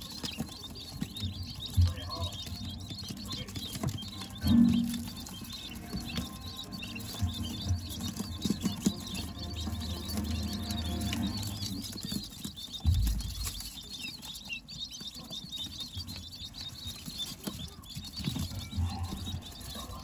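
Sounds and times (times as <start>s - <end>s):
chicks pecking in plastic tray: 0.0s - 20.0s
chicks peeping: 0.0s - 20.0s.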